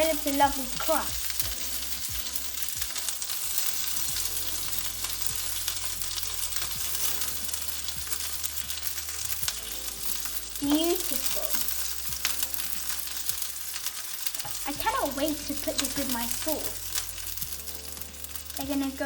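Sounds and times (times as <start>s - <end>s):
chicken frying in oil: 0.0s - 19.0s
crackles and pops: 0.0s - 19.0s.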